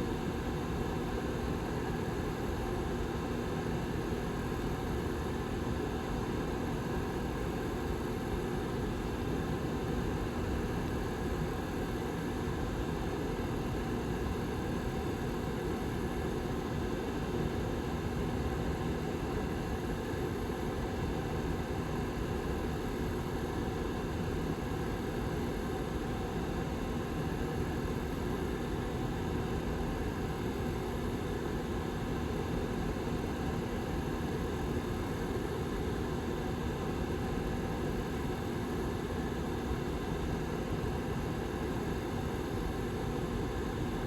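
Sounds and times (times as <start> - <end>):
faint constant hum: 0.0 - 44.0.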